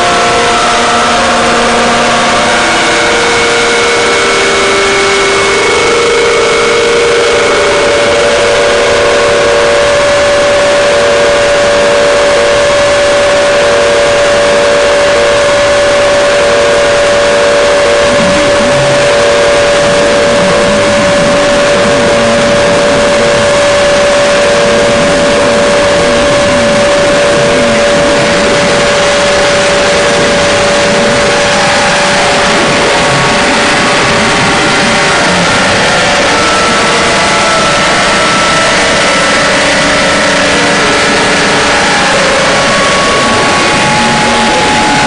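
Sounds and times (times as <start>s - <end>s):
harsh noise drone music: 0.0s - 45.0s.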